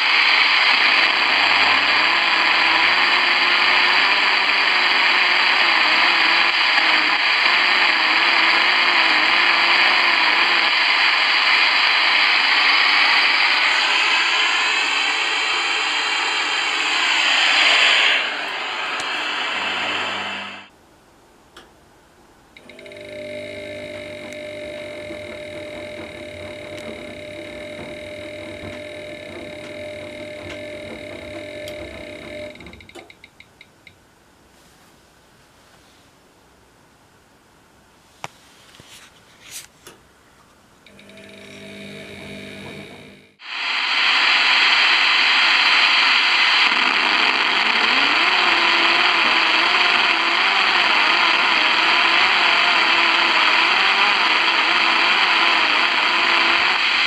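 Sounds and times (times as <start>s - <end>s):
electrical buzz with held tones: 0.0s - 20.7s, 22.5s - 34.0s, 40.7s - 57.0s
radio interference hiss and buzz: 0.0s - 20.7s, 22.6s - 33.2s, 40.9s - 57.0s
wavering whines: 0.0s - 20.7s, 22.6s - 33.2s, 40.9s - 57.0s.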